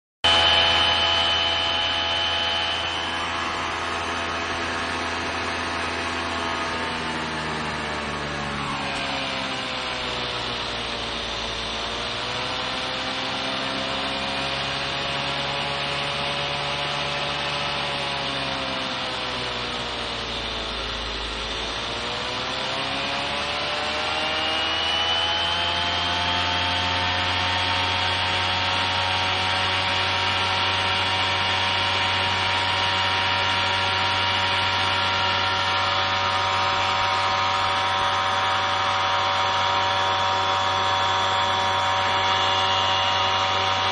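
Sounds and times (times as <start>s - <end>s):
brushless motor electric whine: 0.2s - 43.9s.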